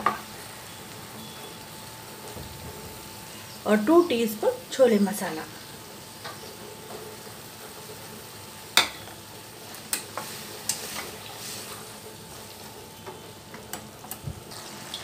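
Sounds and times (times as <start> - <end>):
simmering curry sizzling: 0.0 - 15.0.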